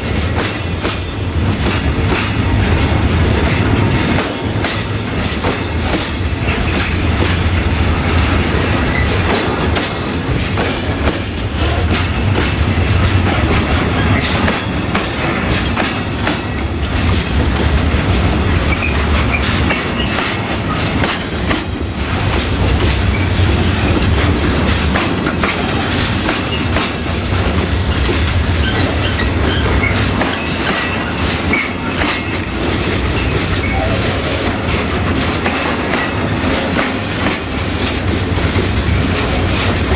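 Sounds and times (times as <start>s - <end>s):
clickety-clack over rail joints: 0.0s - 39.9s
steel wheels rumbling on rail: 0.0s - 39.9s.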